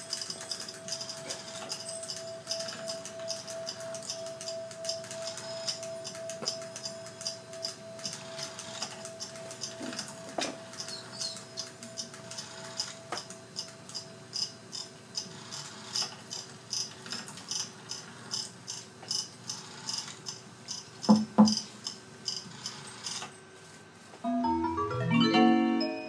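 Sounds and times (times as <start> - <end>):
mechanical ticking: 0.0 - 23.2.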